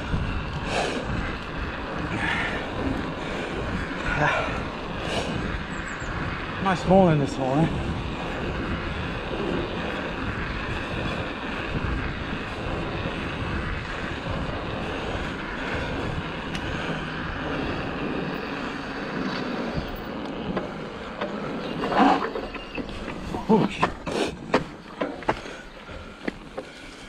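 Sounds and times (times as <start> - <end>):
bike tyres rolling on tarmac: 0.0 - 27.0
wind noise on microphone: 0.0 - 27.0.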